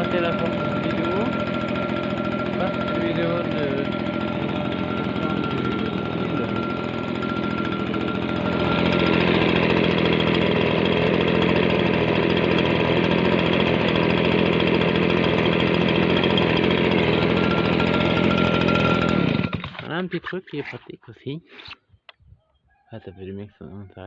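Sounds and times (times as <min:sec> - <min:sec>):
leaf blower engine running: 0:00.0 - 0:20.7.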